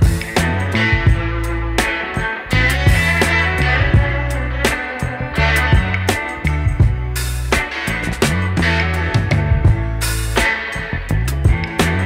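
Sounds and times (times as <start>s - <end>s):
bass line: 0.0s - 12.0s
drums steady beat: 0.0s - 12.0s
guitar: 0.0s - 12.0s.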